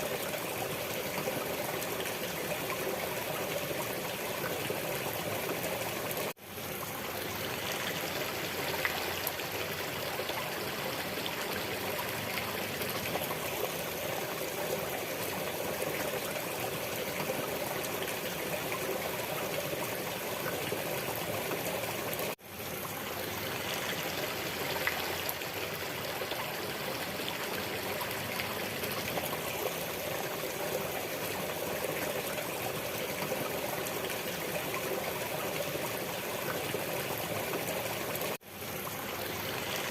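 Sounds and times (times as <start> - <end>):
stream of water trickling: 0.0 - 39.9.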